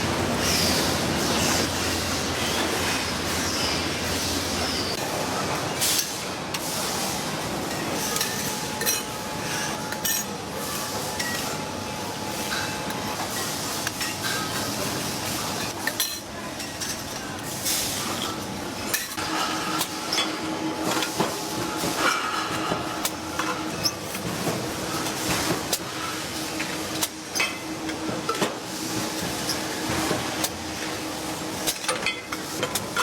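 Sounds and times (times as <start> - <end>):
factory machinery running: 0.0 - 33.0.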